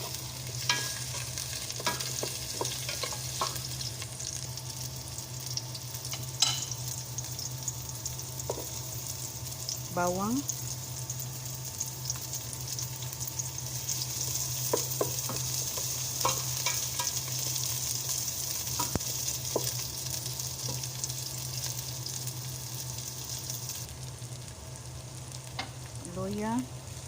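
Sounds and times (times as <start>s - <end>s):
garlic and onion sizzling in oil: 0.0s - 27.0s.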